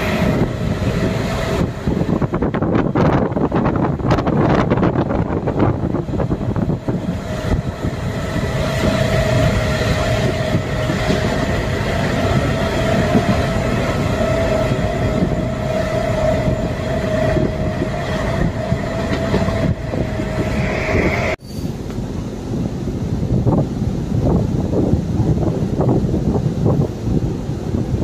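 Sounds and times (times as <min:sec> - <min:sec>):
steady train whine: 0:00.0 - 0:28.0
train wheels rumbling on track: 0:00.0 - 0:28.0.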